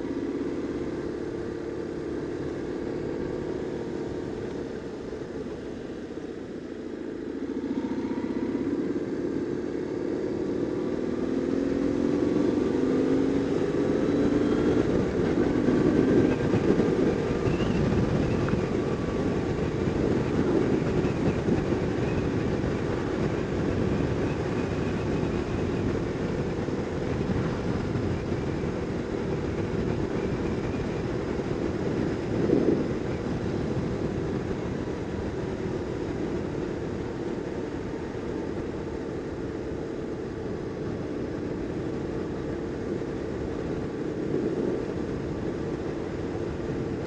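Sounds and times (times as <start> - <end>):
motorcycle engine running: 0.0 - 47.0
road noise: 0.0 - 47.0.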